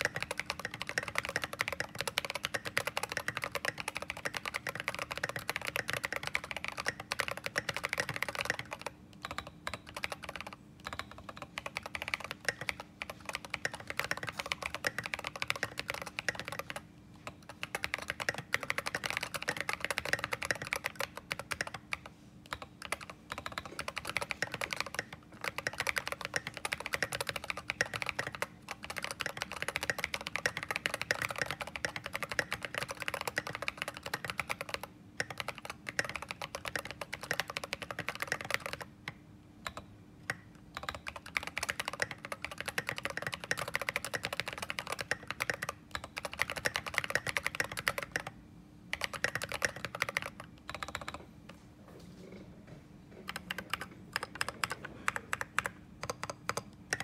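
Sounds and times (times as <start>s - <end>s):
mechanical keyboard typing: 0.0s - 51.3s, 53.1s - 57.0s.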